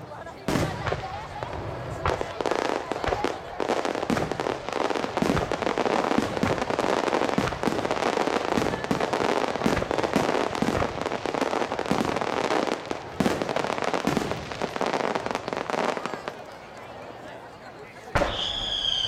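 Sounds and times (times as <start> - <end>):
fireworks bangs and pops: 0.1 - 17.2, 18.0 - 19.0.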